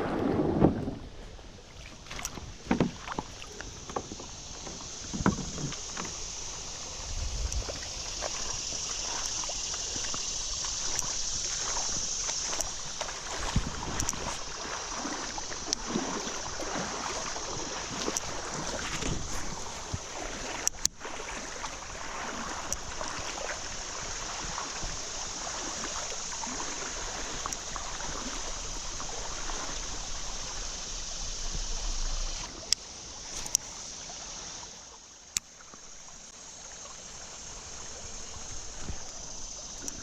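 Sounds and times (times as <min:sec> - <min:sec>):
creek current rushing: 0:00.0 - 0:40.0.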